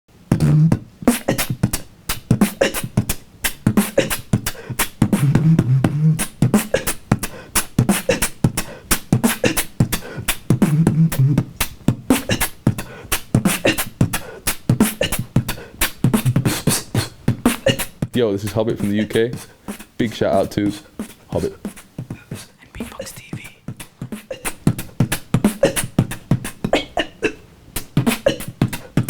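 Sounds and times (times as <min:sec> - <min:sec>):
beatboxing drum sounds: 0:00.1 - 0:29.0.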